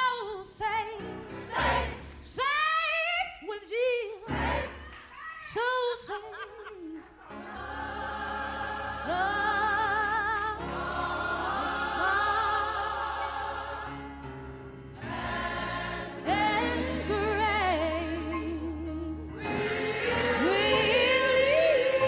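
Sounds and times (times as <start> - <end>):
church choir singing gospel: 0.0 - 2.8, 3.6 - 22.0.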